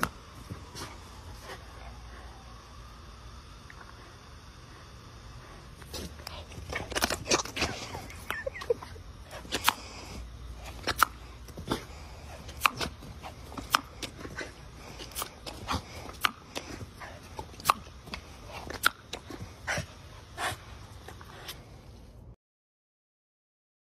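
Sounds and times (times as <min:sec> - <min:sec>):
garden hose spraying water: 0:00.0 - 0:22.2.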